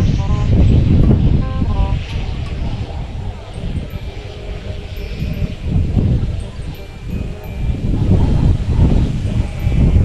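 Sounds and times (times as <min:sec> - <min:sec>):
kite hummers wavering tones: 0:00.0 - 0:10.0
wind rumble on microphone: 0:00.0 - 0:10.0.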